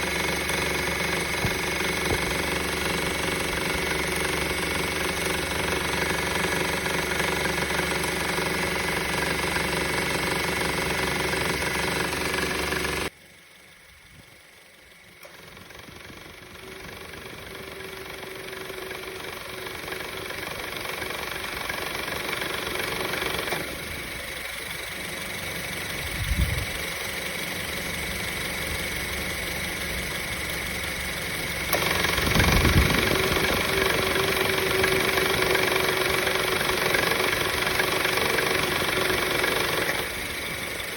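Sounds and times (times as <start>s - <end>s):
car engine idling with rattle: 0.0s - 40.9s.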